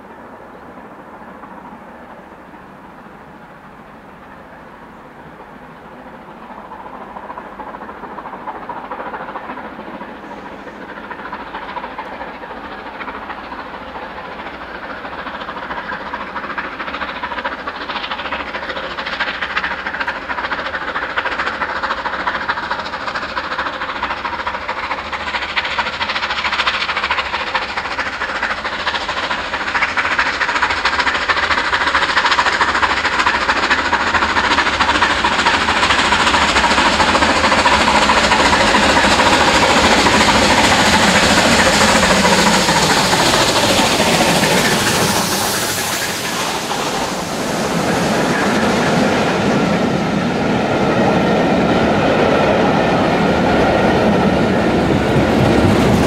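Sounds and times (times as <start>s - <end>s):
steam locomotive exhaust beat: 0.0s - 56.0s.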